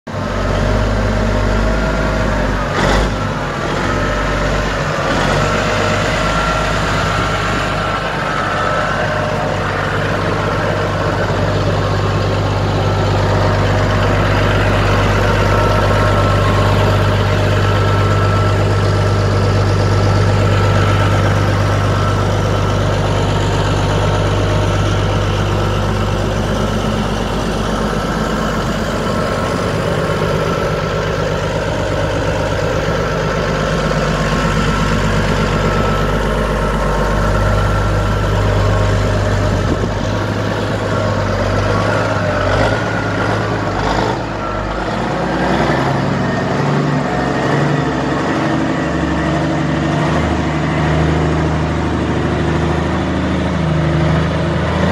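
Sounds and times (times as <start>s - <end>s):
truck diesel engine idling: 0.1s - 54.9s.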